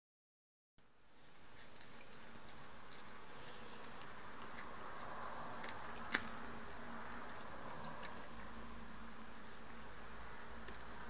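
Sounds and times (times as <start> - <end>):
cat chewing flowers and plastic: 0.8 - 11.0.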